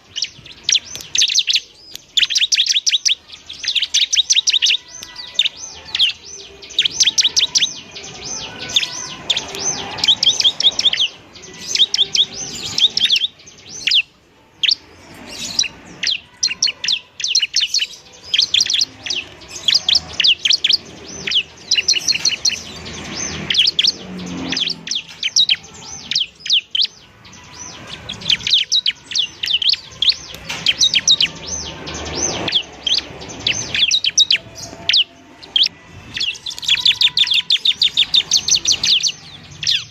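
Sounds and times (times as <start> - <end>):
bird high chirping song: 0.0 - 39.9.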